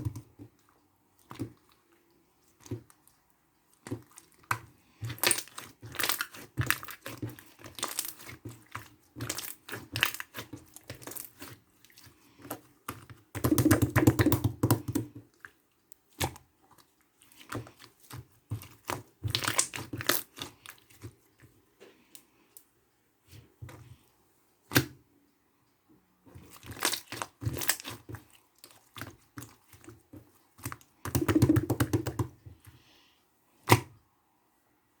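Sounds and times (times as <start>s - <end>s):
slime squelching: 0.0s - 22.6s, 26.2s - 33.9s.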